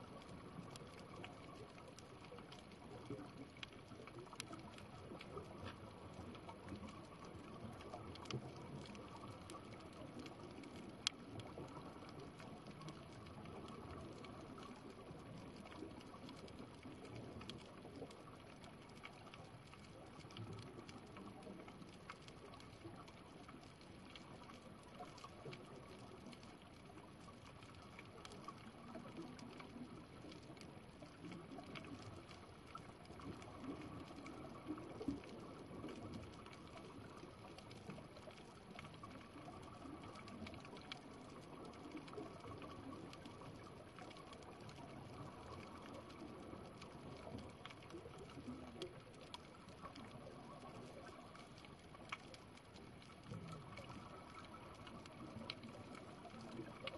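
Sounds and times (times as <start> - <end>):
small clicks and crackles: 0.0 - 56.9
underwater water movement: 0.0 - 56.9.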